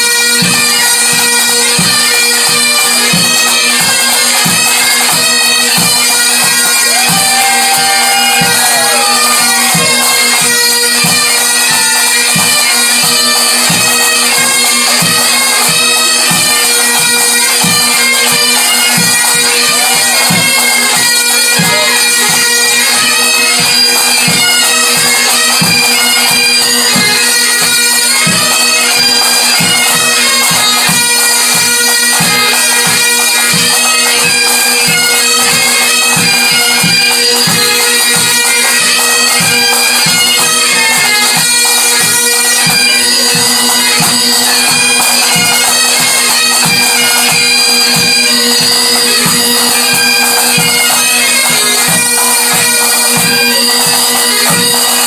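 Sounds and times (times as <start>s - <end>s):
bagpipes playing a tune: 0.0s - 55.0s.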